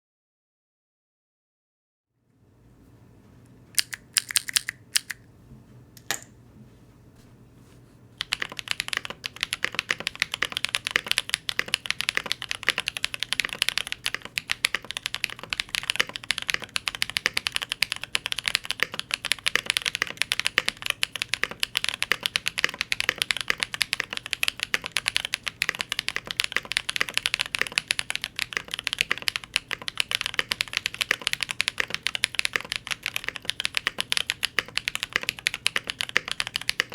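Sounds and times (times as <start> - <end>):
mechanical keyboard typing: 3.8 - 5.2, 8.2 - 36.9.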